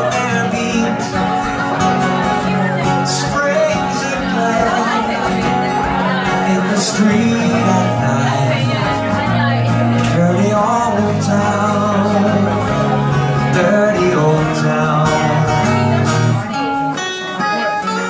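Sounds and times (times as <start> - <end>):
two acoustic guitars playing: 0.0 - 18.0.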